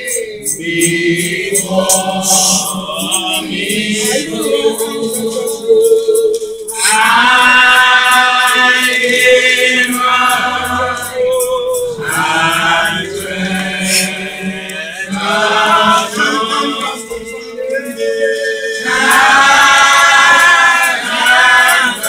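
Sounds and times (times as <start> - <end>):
congregation singing: 0.0 - 22.0
faint steady beat: 0.0 - 22.0.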